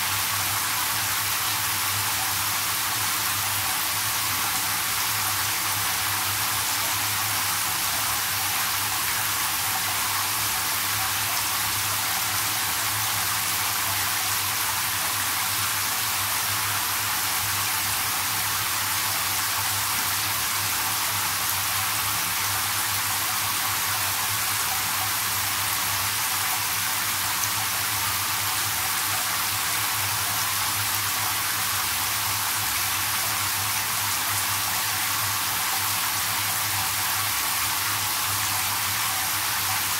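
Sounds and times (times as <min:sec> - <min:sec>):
shower spraying into bathtub: 0:00.0 - 0:39.9.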